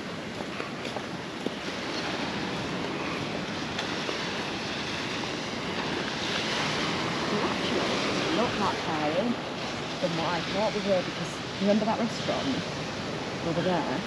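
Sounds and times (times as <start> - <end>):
surf washing onto beach: 0.0 - 14.0
wind on microphone: 0.0 - 14.0.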